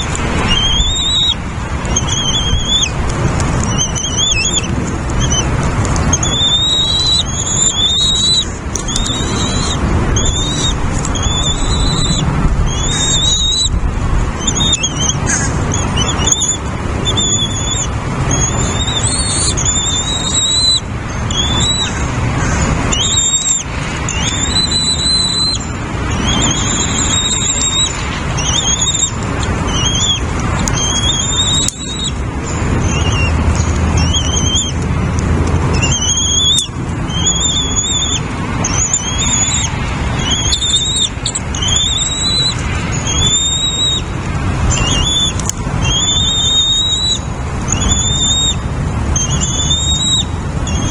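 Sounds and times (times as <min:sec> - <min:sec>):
bird calling high notes: 0:00.0 - 0:13.8, 0:14.4 - 0:44.1, 0:44.7 - 0:48.6
steady background noise: 0:00.0 - 0:50.9.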